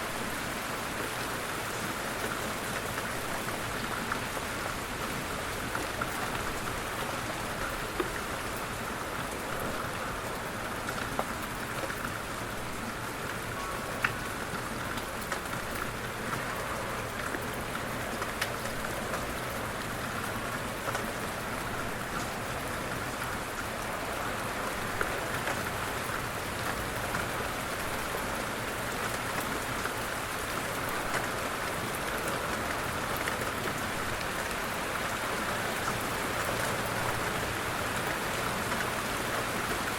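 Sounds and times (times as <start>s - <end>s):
light rain hiss: 0.0s - 39.9s
raindrops ticking on a surface: 0.0s - 39.9s.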